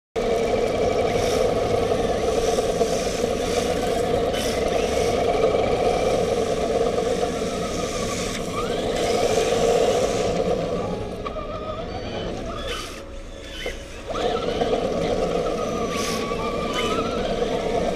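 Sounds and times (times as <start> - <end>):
rc car drivetrain hum: 0.2 - 17.9.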